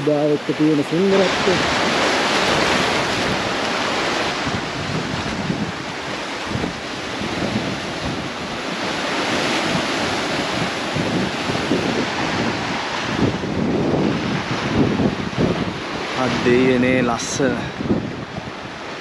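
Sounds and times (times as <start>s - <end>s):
small waves breaking on shore: 0.0s - 19.0s
wind noise on microphone: 0.0s - 19.0s.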